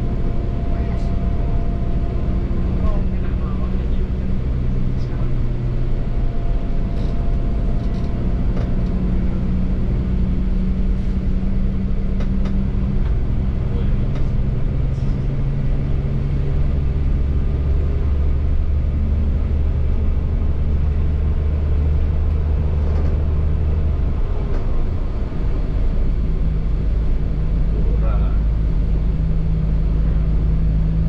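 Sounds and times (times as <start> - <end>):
bus diesel engine droning: 0.0 - 31.0.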